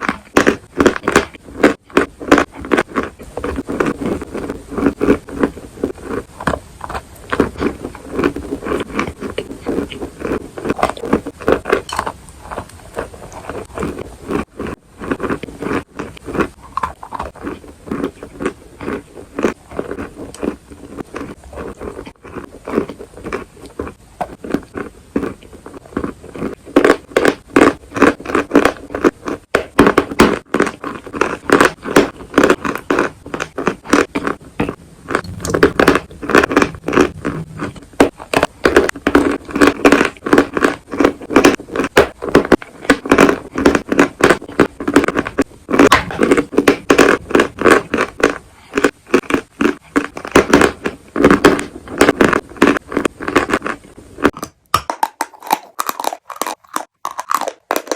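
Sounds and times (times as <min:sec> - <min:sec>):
biting and chewing crunchy pieces: 0:00.0 - 0:57.9.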